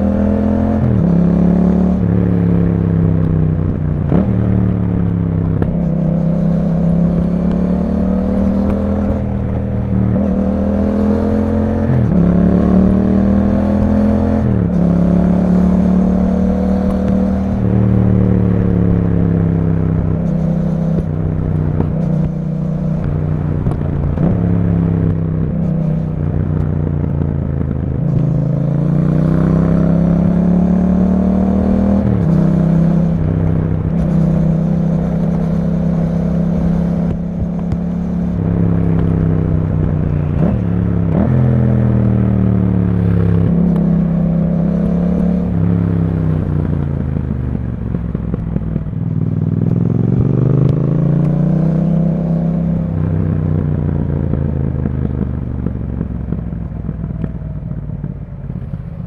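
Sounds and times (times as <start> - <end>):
gear shift pitch changes: 0.0 - 59.0
motorcycle engine accelerating: 0.0 - 59.0.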